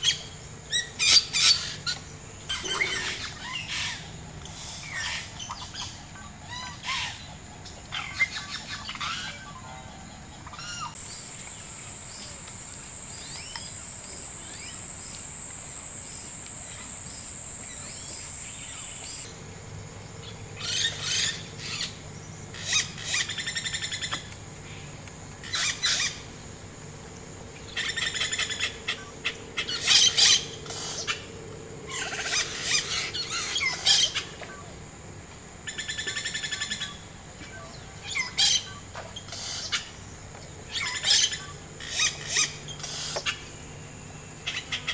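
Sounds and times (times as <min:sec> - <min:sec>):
high-pitched insect drone: 0:00.0 - 0:11.0, 0:19.2 - 0:44.9
bird calls: 0:00.0 - 0:12.4, 0:16.7 - 0:44.9.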